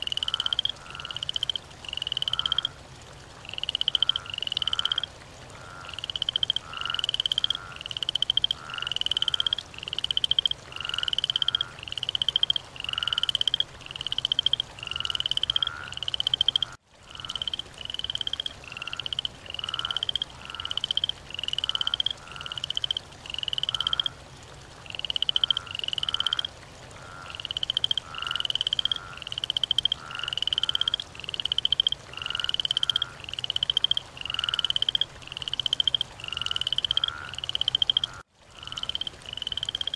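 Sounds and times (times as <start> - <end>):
frog croaking: 0.0 - 2.8, 3.4 - 24.2, 24.8 - 39.9.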